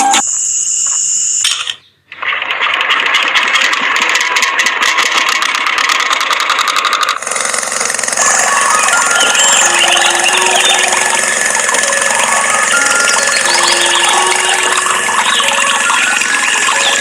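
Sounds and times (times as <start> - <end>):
small motor rattling: 2.2 - 17.0.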